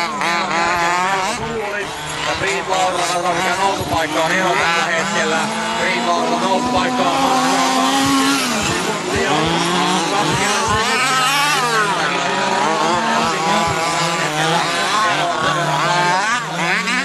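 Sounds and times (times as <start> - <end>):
rc car engines revving: 0.0 - 17.0.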